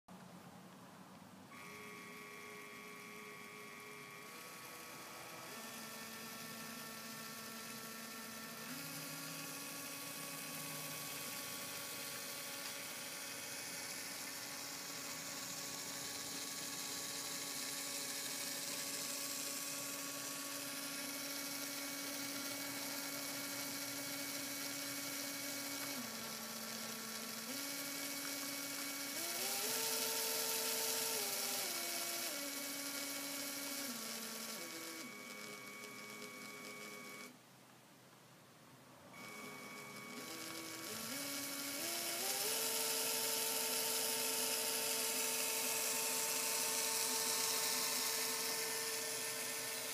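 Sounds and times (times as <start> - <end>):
small electric motor whining: 1.5 - 37.4, 39.1 - 49.9.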